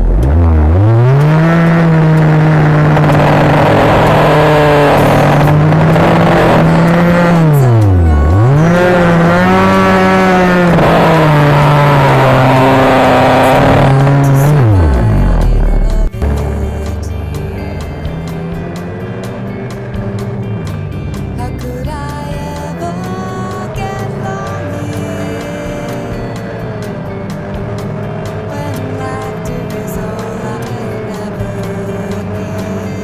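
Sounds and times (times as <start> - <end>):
small engine revving: 0.0 - 33.0.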